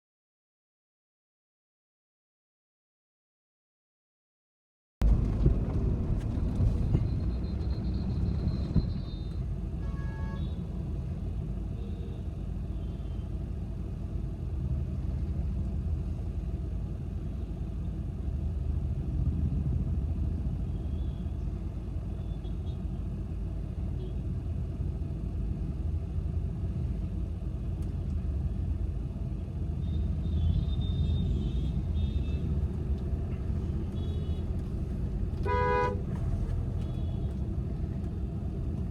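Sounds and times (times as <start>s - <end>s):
car engine and road noise: 5.0s - 38.9s.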